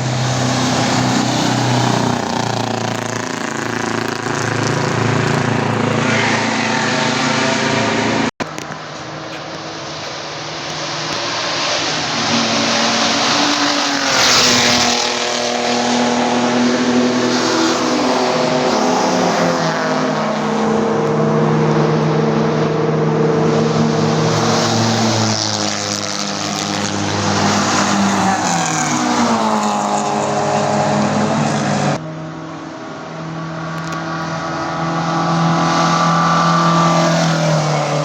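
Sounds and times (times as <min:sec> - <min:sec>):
racing car engines passing: 0:00.0 - 0:38.0.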